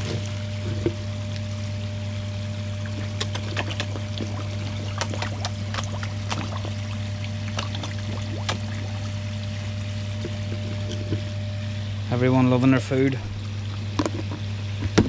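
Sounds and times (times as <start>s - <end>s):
fish slurping and splashing: 0.0s - 15.0s
low hum: 0.0s - 15.0s
running water: 0.0s - 15.0s.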